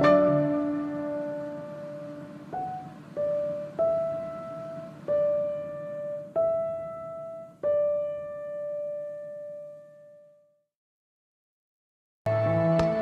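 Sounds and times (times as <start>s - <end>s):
slow piano melody: 0.0s - 10.7s.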